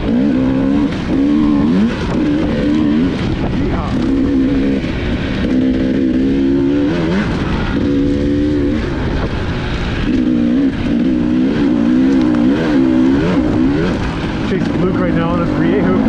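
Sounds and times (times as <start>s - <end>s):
motorcycle engine revving: 0.0s - 16.0s
steady rushing noise: 0.0s - 16.0s.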